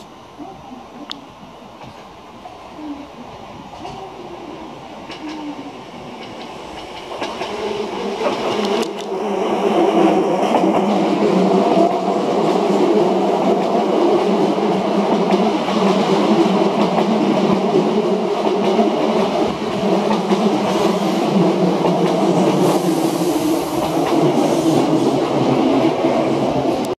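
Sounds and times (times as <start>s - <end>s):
electric train running past: 0.0s - 27.0s
wheel-on-rail noise: 0.0s - 27.0s.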